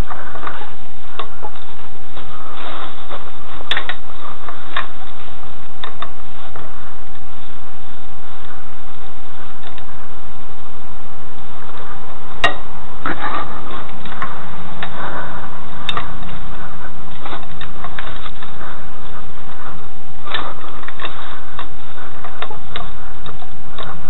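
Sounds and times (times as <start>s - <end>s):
faint constant whine: 0.0s - 24.0s
steady hiss: 0.0s - 24.0s.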